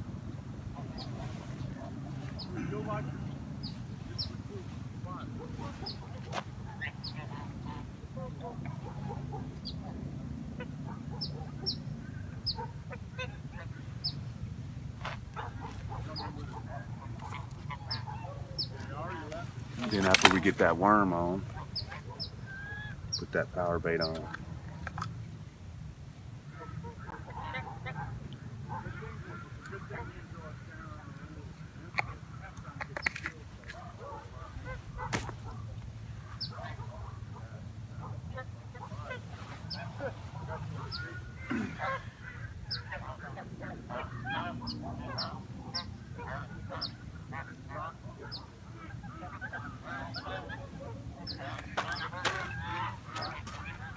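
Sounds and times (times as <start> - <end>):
geese honking: 0.7 - 14.3, 15.0 - 25.1, 26.5 - 53.9.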